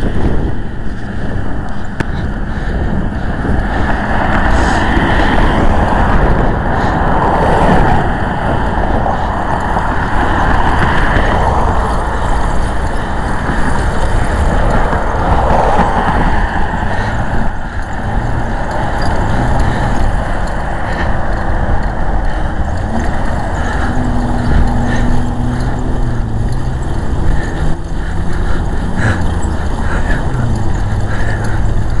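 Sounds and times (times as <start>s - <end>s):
road vehicle running noise: 0.0s - 32.0s.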